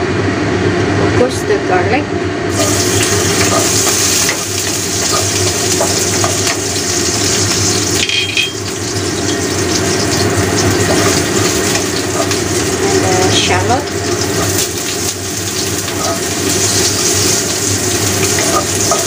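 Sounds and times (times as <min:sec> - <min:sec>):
garlic sizzling in oil: 0:02.5 - 0:19.0.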